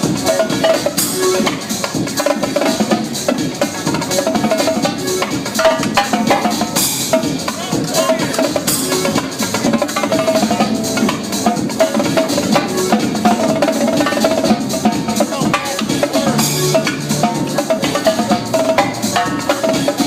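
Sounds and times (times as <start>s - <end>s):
drum kit playing: 0.0s - 20.0s
electronic dance music: 0.0s - 20.0s.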